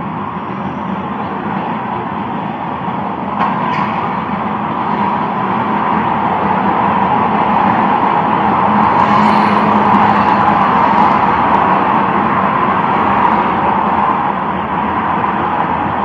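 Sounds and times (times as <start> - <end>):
motor vehicle noise: 0.0 - 16.0.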